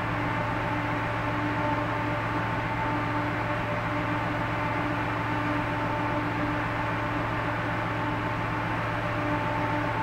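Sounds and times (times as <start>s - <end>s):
ship engine droning: 0.0s - 10.0s.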